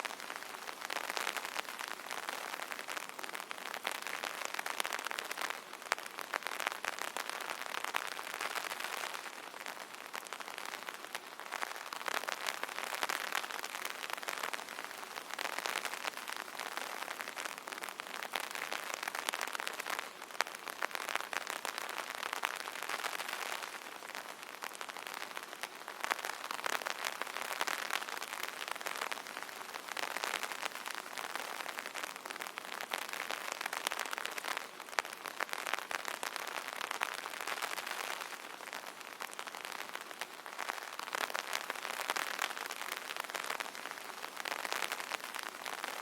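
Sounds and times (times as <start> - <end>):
rain pattering on an umbrella: 0.0 - 46.0.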